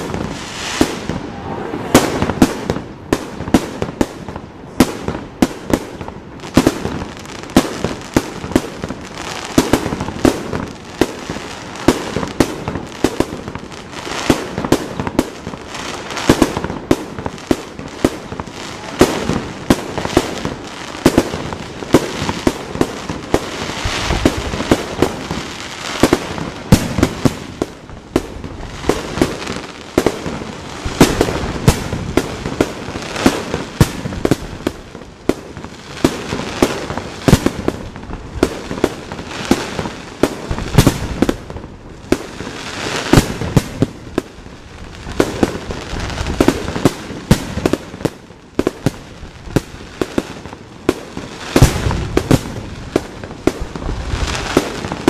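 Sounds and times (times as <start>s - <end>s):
firework bursts: 0.0s - 55.0s.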